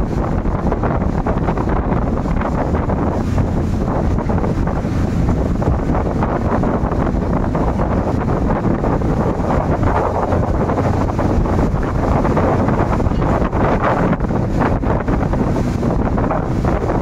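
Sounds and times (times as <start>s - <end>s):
churning boat wake: 0.0s - 17.0s
outboard motor running: 0.0s - 17.0s
wind buffeting microphone: 0.0s - 17.0s.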